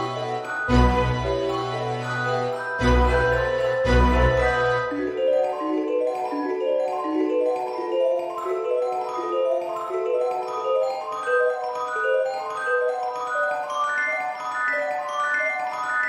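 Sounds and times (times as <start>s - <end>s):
quick light melodic notes: 0.0s - 13.6s.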